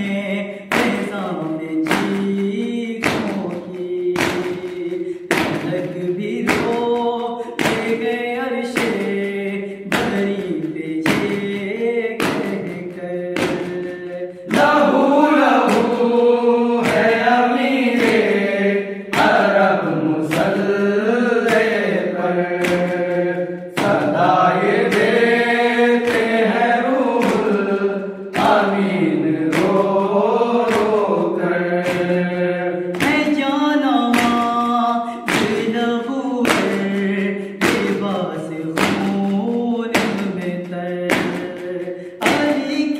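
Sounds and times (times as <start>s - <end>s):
male voices chanting a lament: 0.0s - 42.9s
rhythmic hand strikes on chest: 0.0s - 42.9s.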